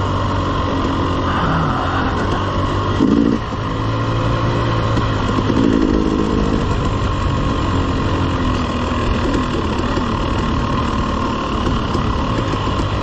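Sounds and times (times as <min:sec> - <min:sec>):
dirt bike engine: 0:00.0 - 0:13.0.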